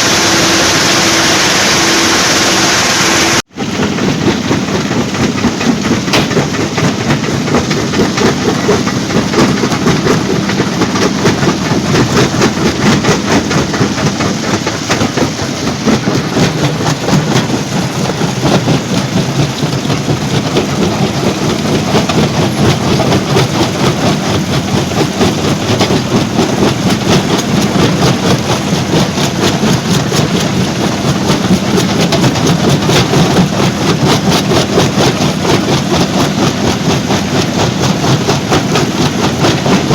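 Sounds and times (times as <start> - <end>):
machine drone: 0.0 - 39.9
rock crushing clatter: 3.6 - 39.9.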